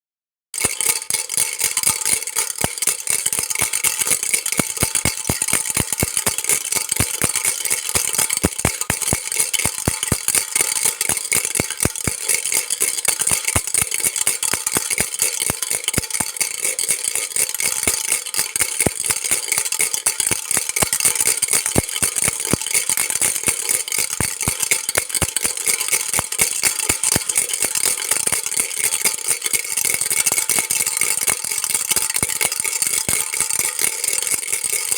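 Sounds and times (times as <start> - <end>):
baby rattle shaking: 0.6 - 34.9.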